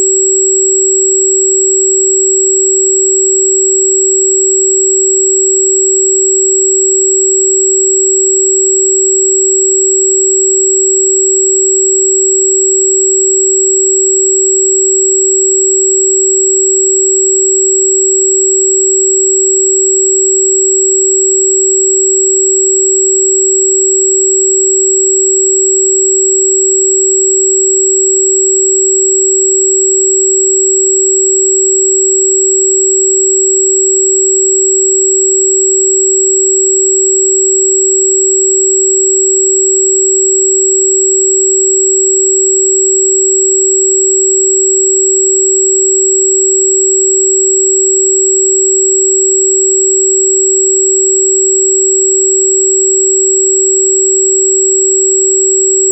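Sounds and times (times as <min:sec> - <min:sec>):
steady sine tone: 0:00.0 - 0:55.9.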